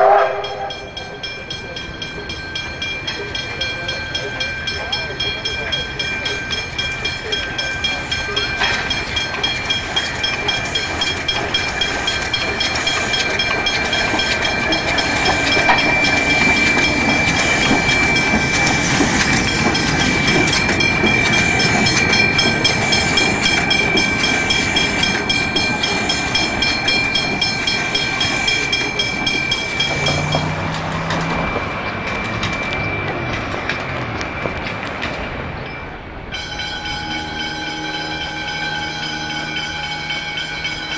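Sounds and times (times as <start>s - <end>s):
level-crossing bells ringing: 0.0s - 40.9s
steam locomotive passing: 0.0s - 40.9s.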